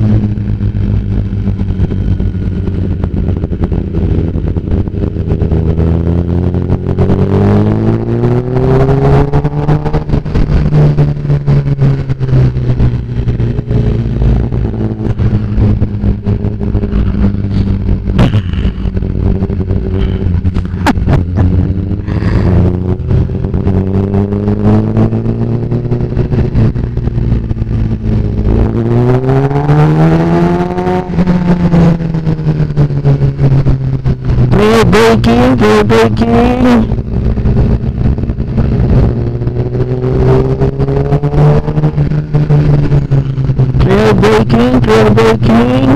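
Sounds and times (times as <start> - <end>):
exhaust popping: 0.0 - 45.9
motorcycle engine revving: 0.0 - 45.9
wind rushing over microphone: 0.0 - 45.9.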